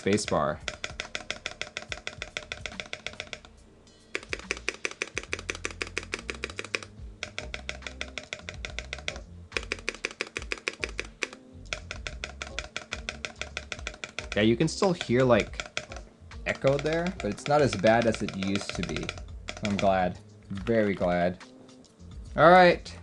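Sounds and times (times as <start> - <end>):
keyboard spacebar clicks: 0.0 - 3.5, 4.1 - 21.2.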